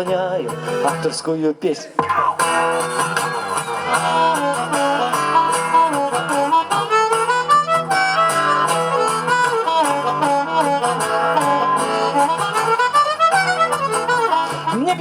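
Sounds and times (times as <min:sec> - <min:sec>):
guitar accompaniment: 0:00.0 - 0:15.0
harmonica melody: 0:02.4 - 0:15.0.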